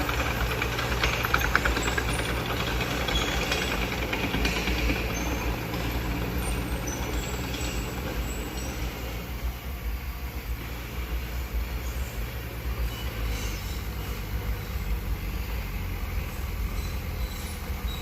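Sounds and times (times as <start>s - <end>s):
bulldozer diesel engine humming: 0.0s - 18.0s.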